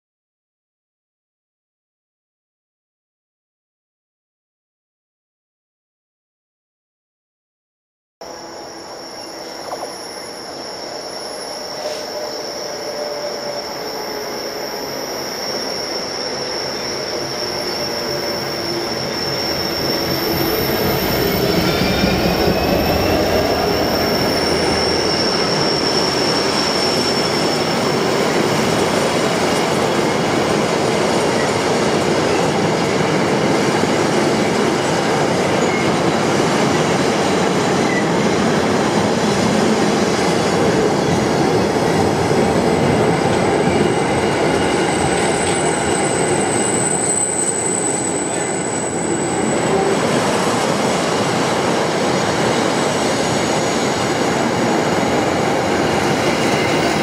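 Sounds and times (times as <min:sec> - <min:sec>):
high-pitched squeal: 0:08.2 - 0:36.4, 0:37.3 - 0:57.0
diesel locomotive passing: 0:08.3 - 0:57.0.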